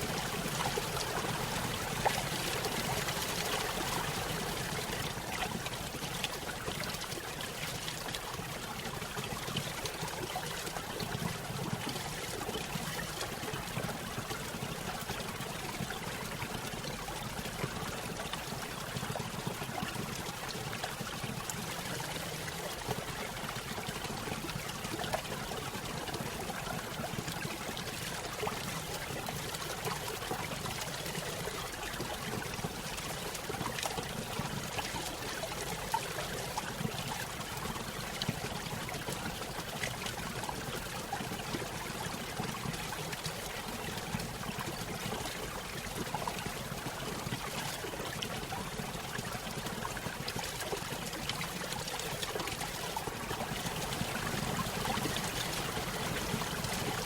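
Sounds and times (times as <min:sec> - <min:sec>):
stream trickling over small waterfall: 0:00.0 - 0:57.0.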